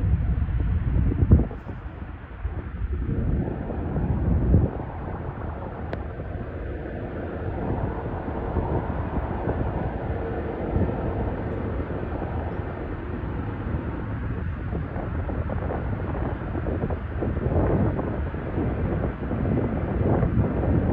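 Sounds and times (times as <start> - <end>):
faint steady whine: 0.0 - 20.9
jet engines rumbling: 0.0 - 20.9
wind buffeting microphone: 0.0 - 20.9.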